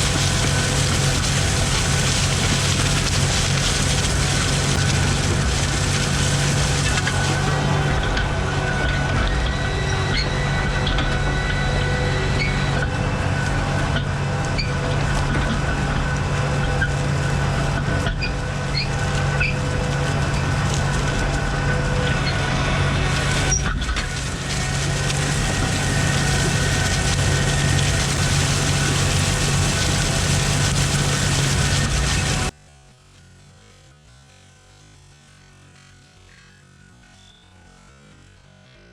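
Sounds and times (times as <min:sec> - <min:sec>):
tractor engine running: 0:00.0 - 0:32.6.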